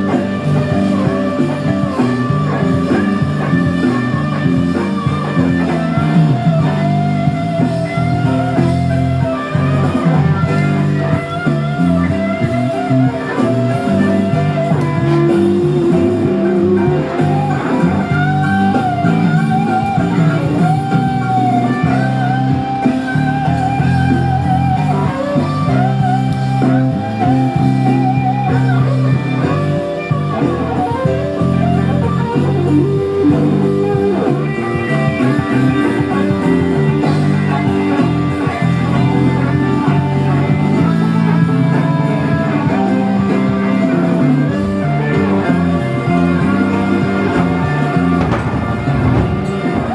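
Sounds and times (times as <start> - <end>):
blues guitar music: 0.0 - 49.9.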